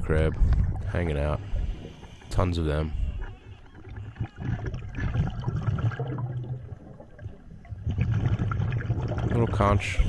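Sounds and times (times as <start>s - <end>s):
underwater bubbles gurgling: 0.0s - 10.0s.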